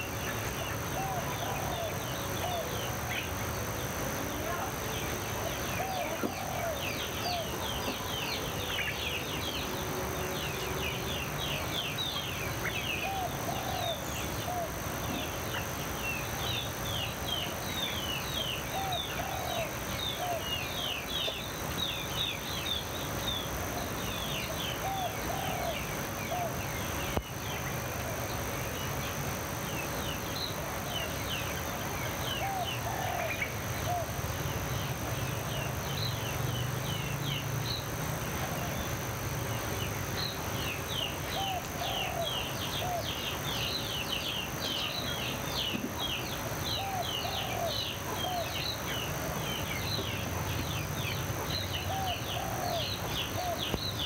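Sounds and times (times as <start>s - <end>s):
small birds chirping: 0.0s - 54.0s
steady high-pitched hum: 0.0s - 54.0s.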